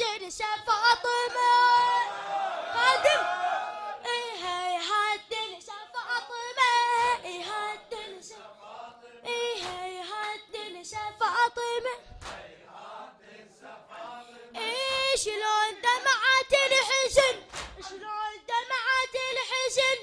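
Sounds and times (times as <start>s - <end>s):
boy chanting a lament: 0.0s - 8.6s, 9.2s - 12.2s, 14.5s - 20.0s.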